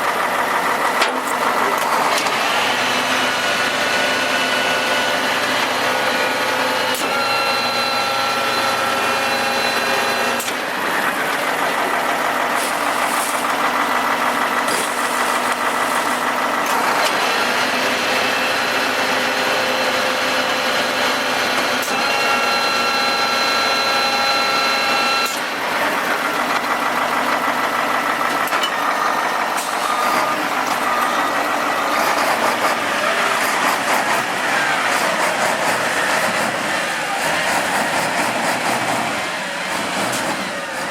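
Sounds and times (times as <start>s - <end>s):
garbage truck engine running: 0.0s - 40.9s
multi-tone hydraulic whine: 0.2s - 40.9s.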